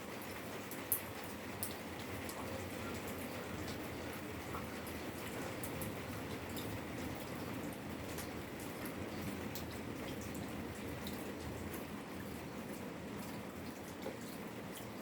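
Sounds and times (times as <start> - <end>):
raindrops pattering and dripping: 0.0 - 15.0.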